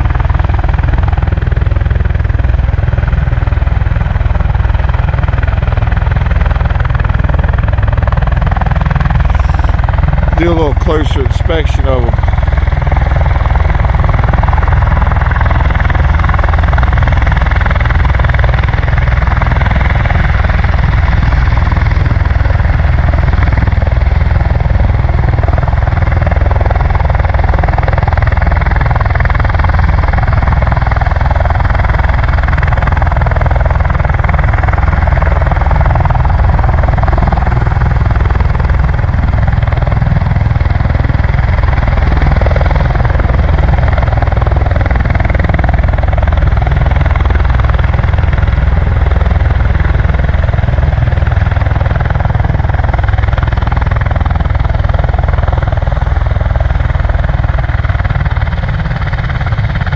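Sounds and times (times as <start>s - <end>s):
tiltrotor aircraft engines droning: 0.0s - 59.9s.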